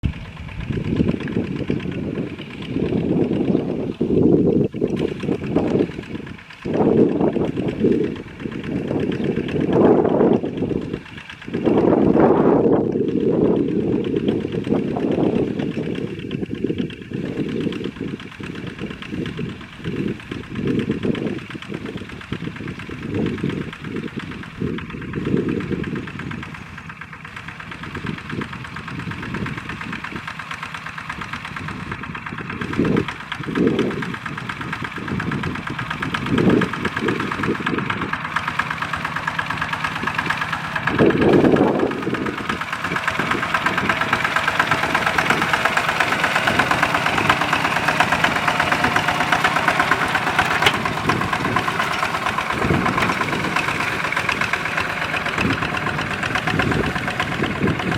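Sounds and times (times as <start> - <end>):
tractor engine knocking: 0.0 - 57.9.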